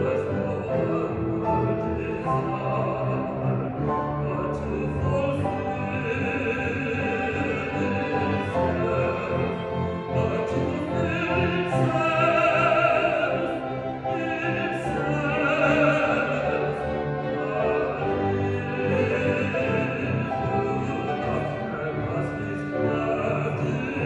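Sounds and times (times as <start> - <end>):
instrumental accompaniment: 0.0 - 24.0
man singing opera: 0.0 - 24.0.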